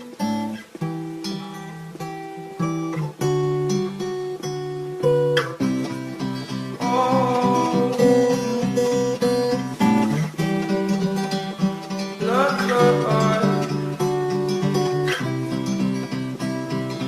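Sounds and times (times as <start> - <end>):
acoustic guitar chords: 0.0 - 17.0
held melody line: 0.0 - 17.0.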